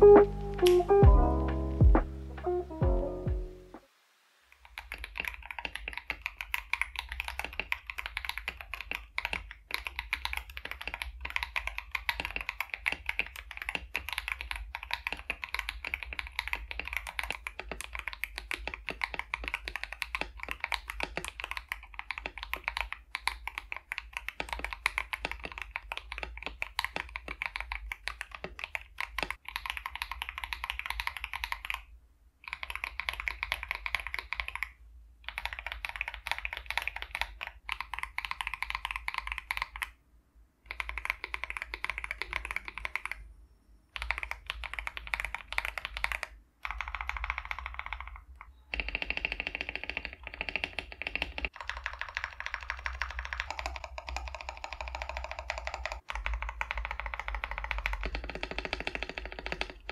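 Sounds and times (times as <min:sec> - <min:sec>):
mechanical keyboard typing: 0:00.0 - 0:03.3, 0:04.6 - 0:40.0, 0:40.7 - 0:43.2, 0:43.9 - 0:59.9.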